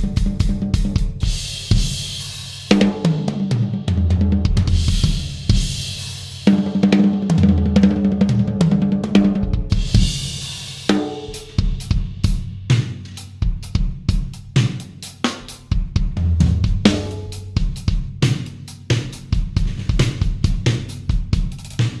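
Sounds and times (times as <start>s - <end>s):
bass drum: 0.0s - 22.0s.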